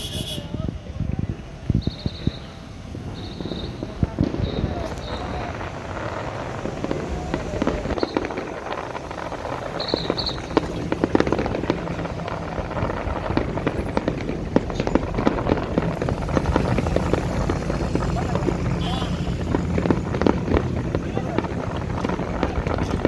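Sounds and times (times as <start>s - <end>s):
fireworks crackling pops: 0.0s - 23.0s
steady low rumble: 0.0s - 23.0s.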